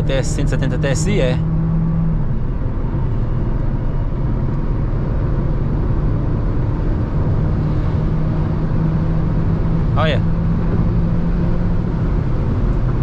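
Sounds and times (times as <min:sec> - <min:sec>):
engine and tyre drone: 0:00.0 - 0:13.0
wind noise in car cabin: 0:00.0 - 0:13.0.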